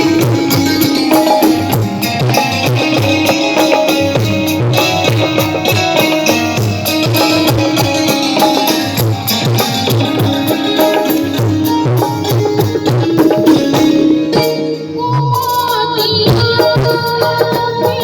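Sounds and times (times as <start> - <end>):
sustained melodic instruments: 0.0 - 16.2
tabla beat: 0.0 - 18.0.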